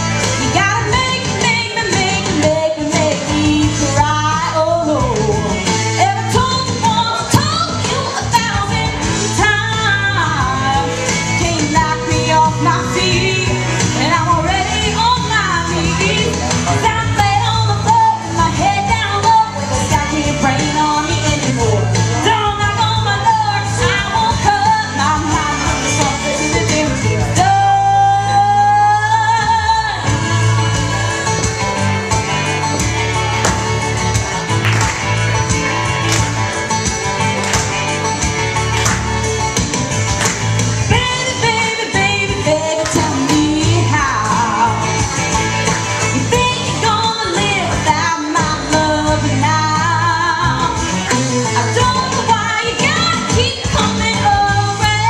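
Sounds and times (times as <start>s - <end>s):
woman singing country song: 0.0s - 34.1s, 40.2s - 55.0s
instrumental backing: 0.0s - 55.0s.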